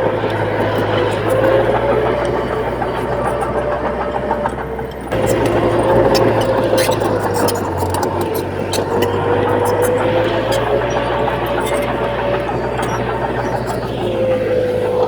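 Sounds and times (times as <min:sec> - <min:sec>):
heavy machinery diesel engines running: 0:00.0 - 0:15.0.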